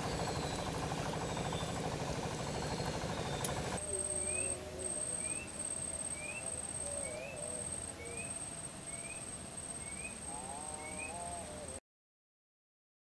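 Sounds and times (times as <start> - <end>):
bird chirping: 0.0 - 11.4
faint wavering distant tones: 0.0 - 11.8.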